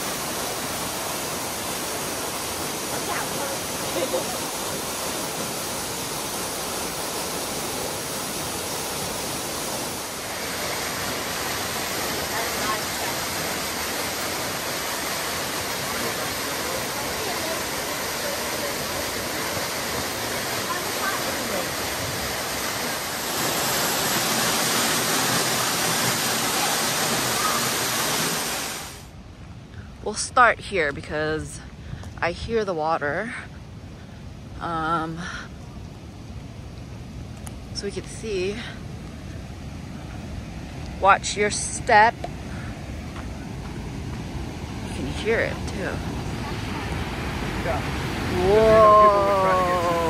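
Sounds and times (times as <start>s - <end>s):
waterfall rushing: 0.0s - 29.2s, 34.6s - 50.0s.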